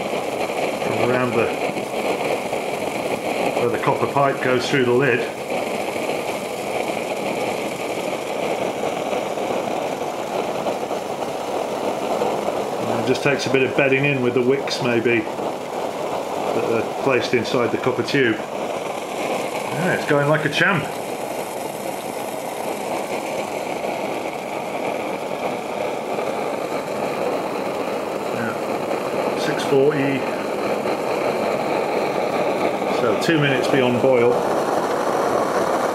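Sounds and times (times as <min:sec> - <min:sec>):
alcohol stove jets roaring: 0:00.0 - 0:35.9
water boiling in a pot: 0:00.0 - 0:35.9.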